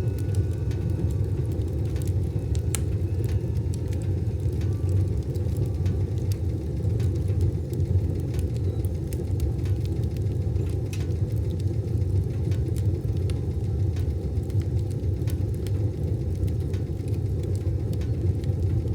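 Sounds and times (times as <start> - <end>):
wood fire burning in a stove: 0.0 - 18.9.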